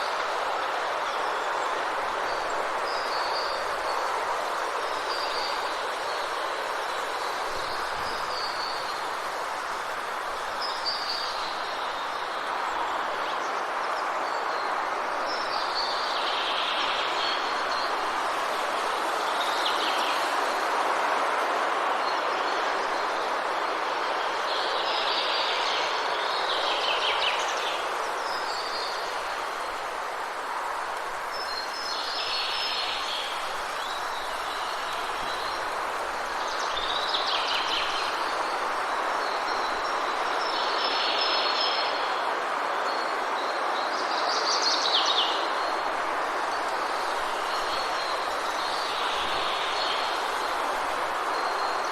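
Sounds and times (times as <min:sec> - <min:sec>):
rushing hiss in trees: 0:00.0 - 0:51.9.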